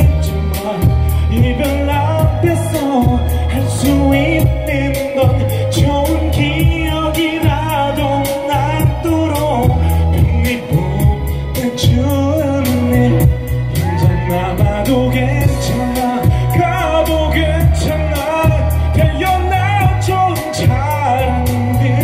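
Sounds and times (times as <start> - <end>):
man singing into microphone: 0.0 - 22.0
pop accompaniment with drums and bass: 0.0 - 22.0.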